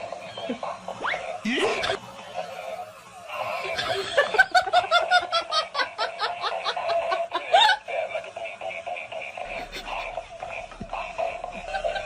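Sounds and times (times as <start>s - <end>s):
high-pitched laughter: 1.5s - 12.0s.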